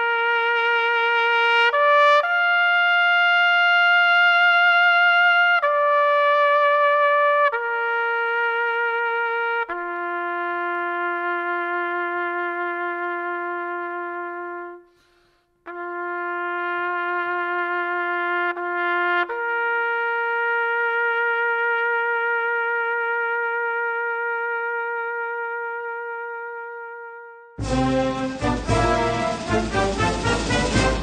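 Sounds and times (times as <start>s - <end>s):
solo trumpet long notes: 0.0s - 31.0s.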